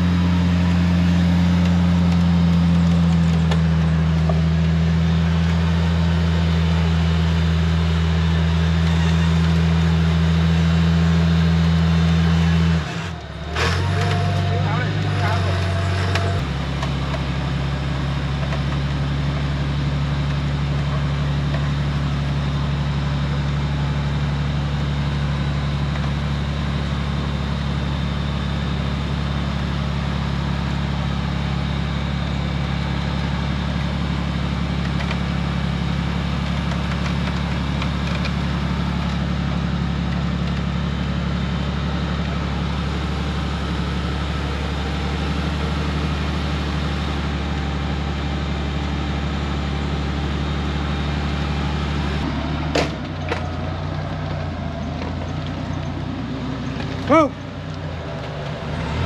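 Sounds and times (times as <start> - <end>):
off-road vehicle engine idling: 0.0 - 59.0.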